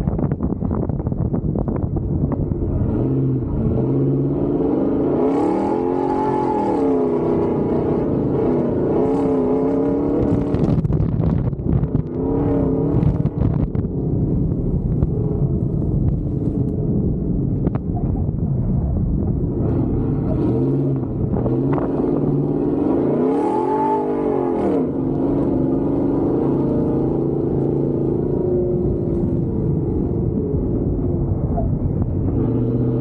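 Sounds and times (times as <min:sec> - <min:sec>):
truck engine revving: 0:02.3 - 0:17.9, 0:19.0 - 0:33.0.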